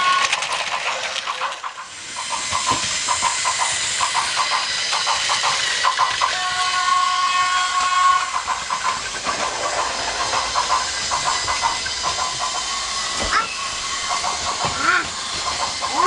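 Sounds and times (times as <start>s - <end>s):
toy train clicking rattle: 0.0s - 16.0s
steady hiss: 1.7s - 16.0s.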